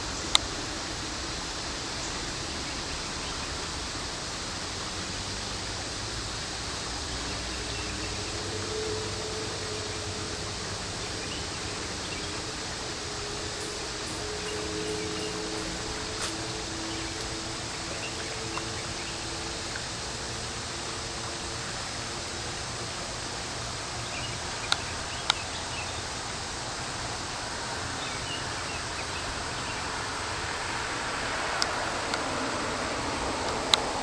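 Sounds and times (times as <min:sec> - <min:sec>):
stream rushing: 0:00.0 - 0:34.0.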